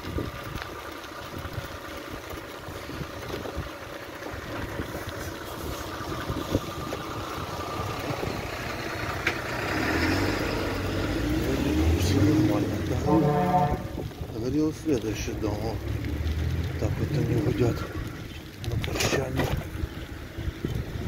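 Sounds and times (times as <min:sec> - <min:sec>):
fire engine motor passing: 0:00.0 - 0:18.6
road and wind noise: 0:00.0 - 0:21.0.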